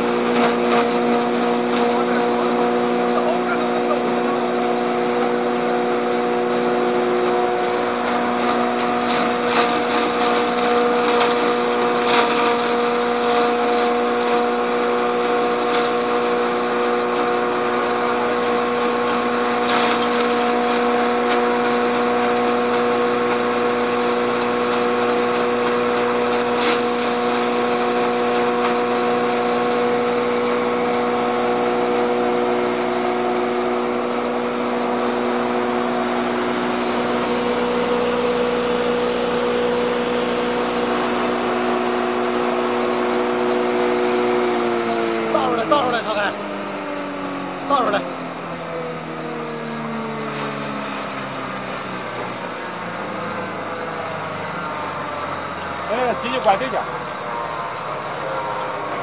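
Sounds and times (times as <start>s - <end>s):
hammer mill humming: 0.0s - 59.0s.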